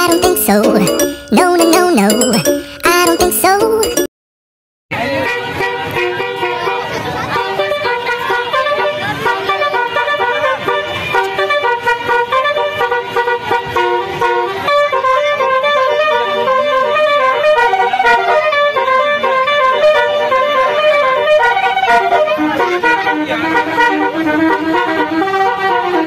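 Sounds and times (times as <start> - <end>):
bus musical horn melody: 5.0 - 26.0.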